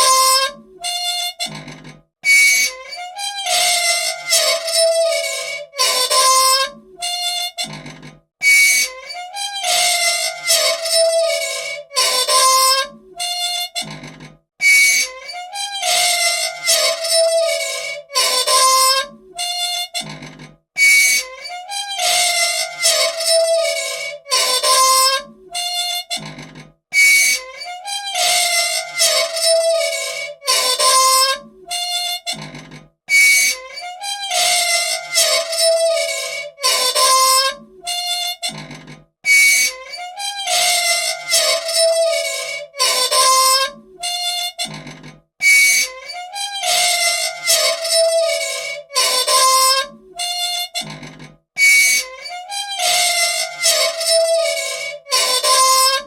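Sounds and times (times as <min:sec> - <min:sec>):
metal parts squealing: 0:00.0 - 0:56.0.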